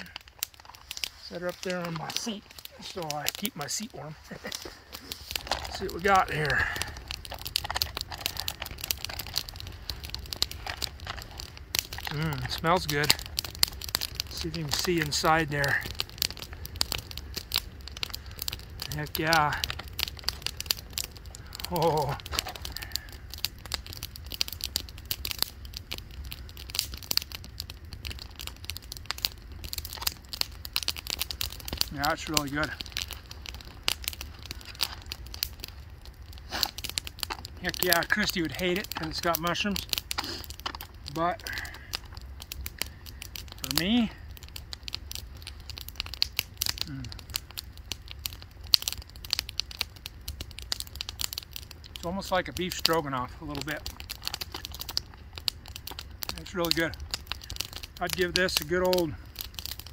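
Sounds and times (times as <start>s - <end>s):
campfire crackling: 0.0s - 59.9s
foil pouch crinkling: 0.0s - 59.9s.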